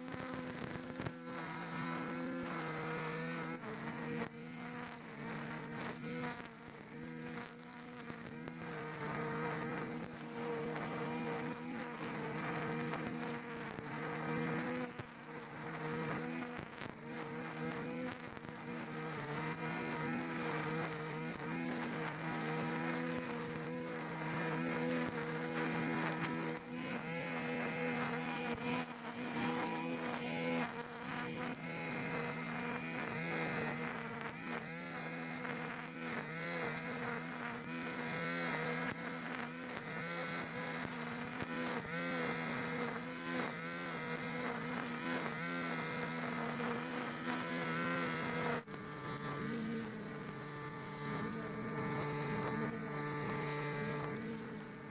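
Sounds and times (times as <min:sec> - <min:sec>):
brush cutter engine running: 0:00.0 - 0:54.9
trimmer line cutting grass: 0:00.0 - 0:54.9.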